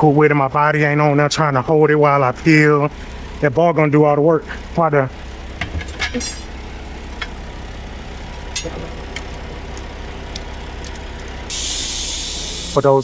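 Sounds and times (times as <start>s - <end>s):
vehicle engine idling: 2.3s - 13.0s.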